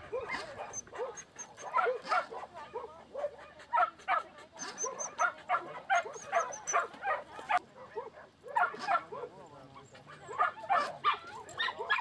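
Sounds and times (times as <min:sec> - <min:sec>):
dog barking: 0:00.0 - 0:09.4, 0:10.1 - 0:12.0.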